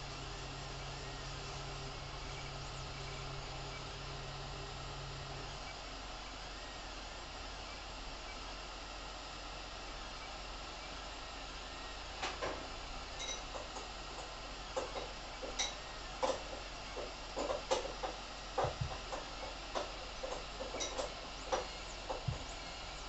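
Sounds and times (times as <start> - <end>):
printer fan hum: 0.0 - 23.0.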